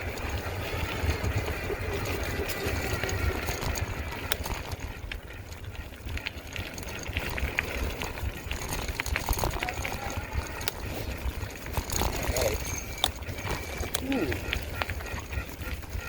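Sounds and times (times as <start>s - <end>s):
bike clicks and ticks: 0.0s - 16.0s
tyres rolling on gravel: 0.0s - 16.0s.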